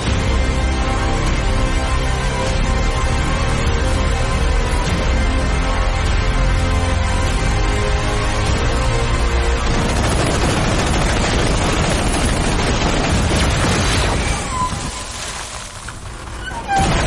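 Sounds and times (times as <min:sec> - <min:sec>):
pitched cinematic music: 0:00.0 - 0:15.0.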